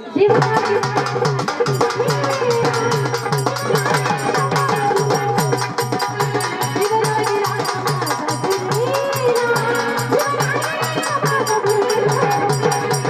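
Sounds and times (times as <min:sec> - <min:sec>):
fast drum rhythm: 0:00.3 - 0:13.0.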